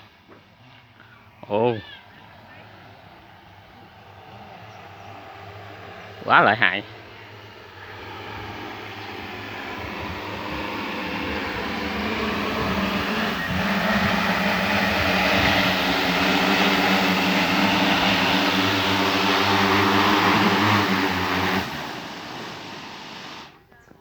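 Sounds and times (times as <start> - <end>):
drone rotors humming: 0.0 - 23.7.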